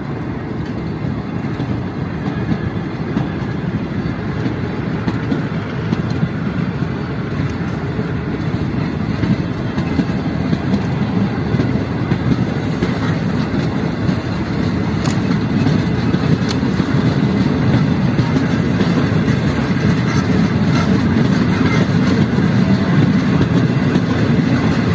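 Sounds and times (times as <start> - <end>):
faint rail clicks: 0.0 - 24.9
train wheels rumbling on rail: 0.0 - 24.9.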